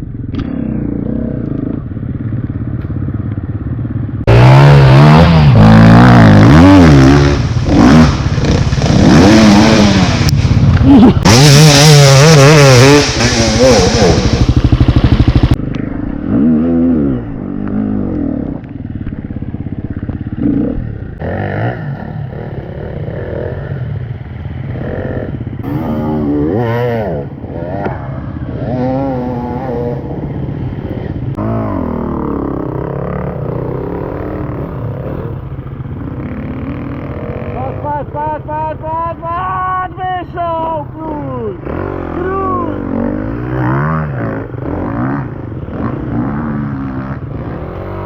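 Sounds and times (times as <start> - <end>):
motorcycle engines revving: 0.0 - 48.0.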